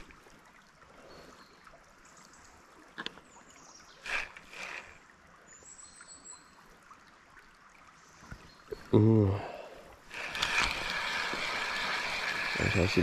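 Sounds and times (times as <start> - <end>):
stream running faintly: 0.0 - 13.0.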